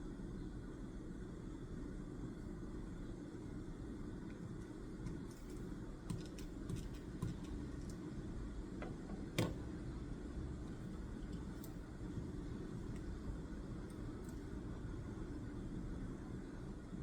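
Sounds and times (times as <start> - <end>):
steady low background hum: 0.0 - 17.0.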